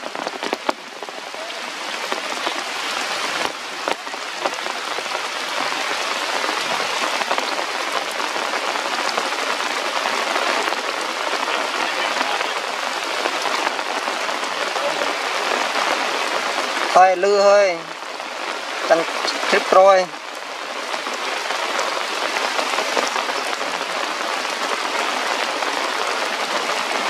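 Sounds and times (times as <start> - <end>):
rain falling through foliage: 0.0 - 27.0.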